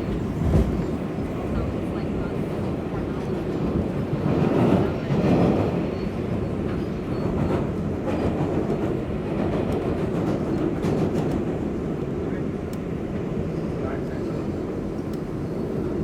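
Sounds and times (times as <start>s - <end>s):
subway car rumbling on rails: 0.0s - 16.0s.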